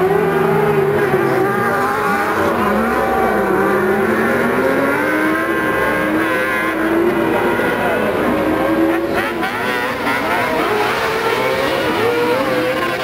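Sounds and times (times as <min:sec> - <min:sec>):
racing buggy engines revving: 0:00.0 - 0:13.0.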